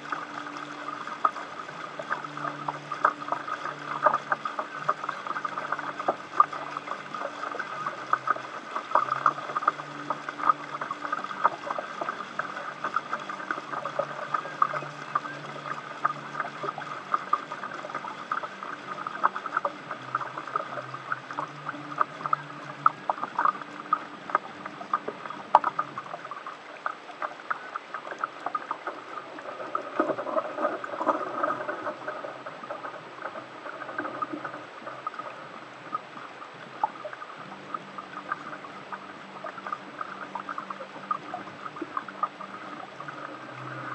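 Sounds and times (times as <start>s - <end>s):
water lapping against a hull: 0.0s - 43.9s.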